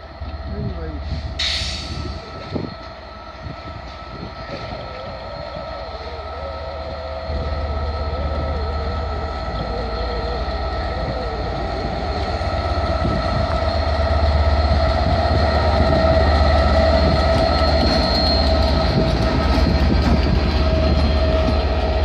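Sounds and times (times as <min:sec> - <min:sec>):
locomotive engine rumble with whine: 0:00.0 - 0:22.0.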